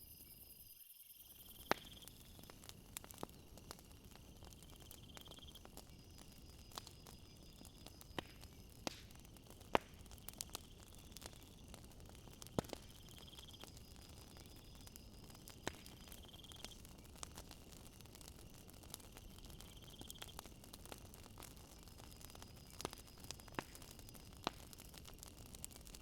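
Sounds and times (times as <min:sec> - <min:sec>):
night insects trilling: 0:00.0 - 0:26.0
wood fire crackling and popping: 0:01.3 - 0:26.0.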